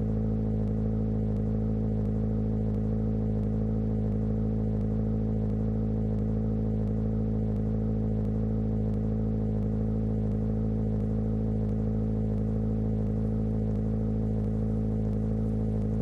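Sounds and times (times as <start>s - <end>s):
stomach growl drone: 0.0s - 16.0s.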